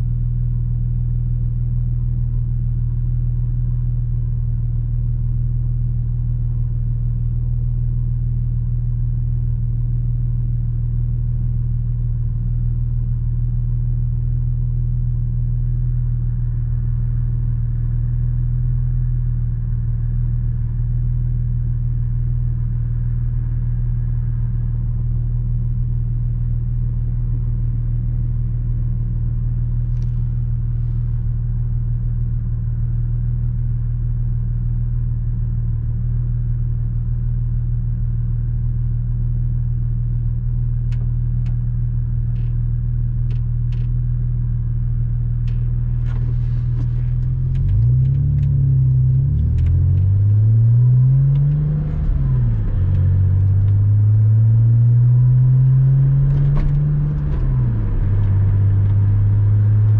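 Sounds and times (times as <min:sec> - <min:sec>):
car engine cruising drone: 0:00.0 - 0:59.9.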